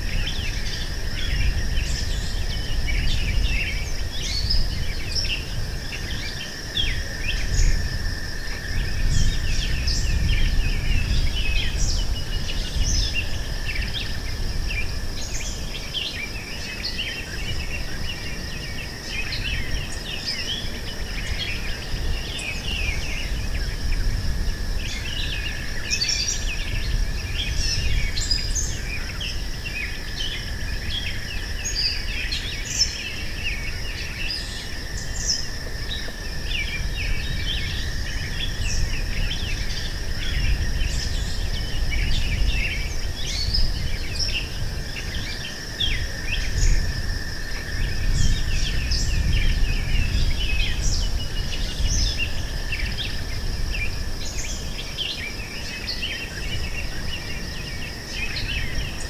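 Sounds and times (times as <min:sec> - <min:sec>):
insect drone: 0:00.0 - 0:59.0.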